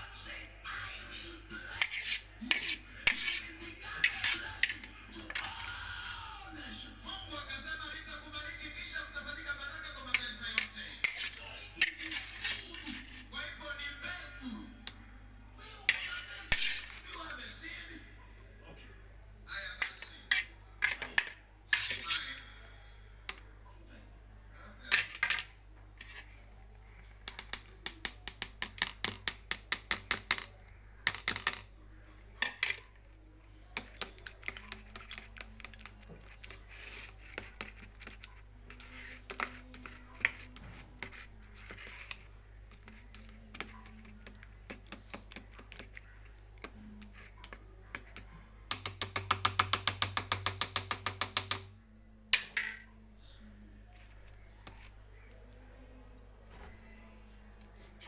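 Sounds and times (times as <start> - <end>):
spoon beating eggs in plastic tub: 0.0 - 18.8, 19.5 - 23.6, 24.6 - 56.0.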